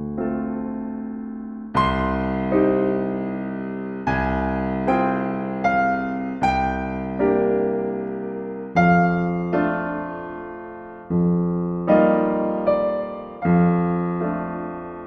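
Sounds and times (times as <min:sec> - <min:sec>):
gentle solo piano chords: 0:00.0 - 0:15.0.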